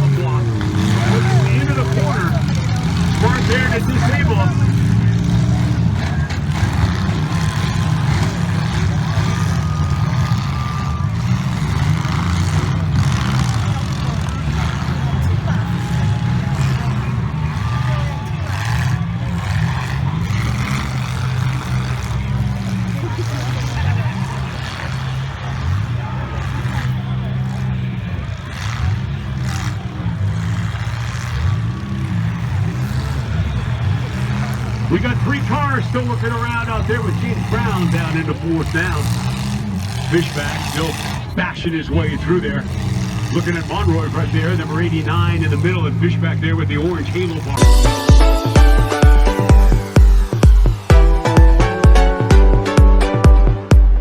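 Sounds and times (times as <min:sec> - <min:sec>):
car engines rumbling roughly: 0:00.0 - 0:54.0.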